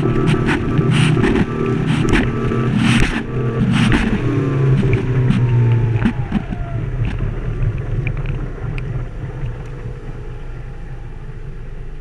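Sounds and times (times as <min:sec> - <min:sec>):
boat engine droning: 0:00.0 - 0:12.0
faint whine falling in pitch: 0:00.0 - 0:12.0.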